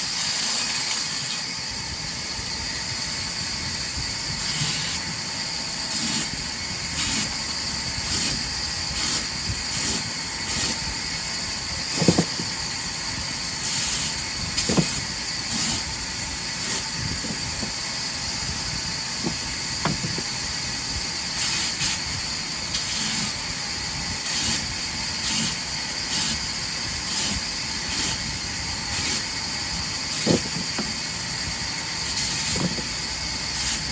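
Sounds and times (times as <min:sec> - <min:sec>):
sawmill machine hissing: 0:00.0 - 0:33.9.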